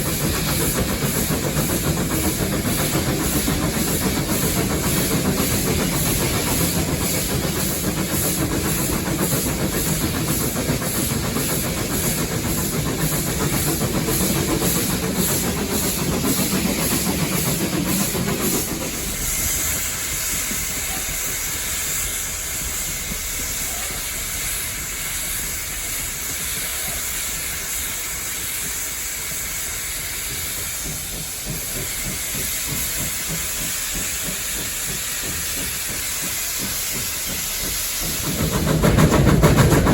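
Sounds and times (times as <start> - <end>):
locomotive rumble: 0.0 - 39.9
steam hiss: 0.0 - 39.9.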